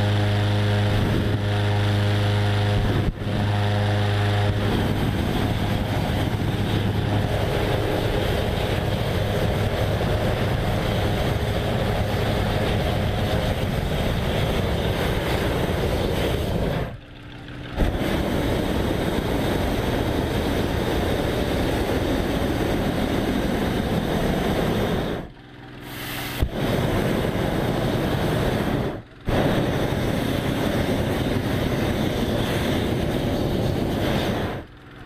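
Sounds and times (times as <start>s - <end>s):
propane burner blasts: 0.0s - 35.0s.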